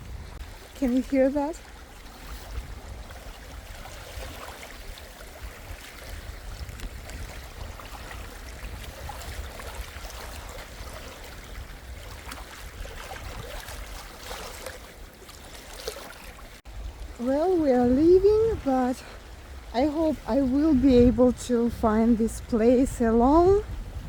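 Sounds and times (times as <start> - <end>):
lake waves lapping on shore: 0.0 - 24.0
wind rumble on microphone: 0.0 - 24.0.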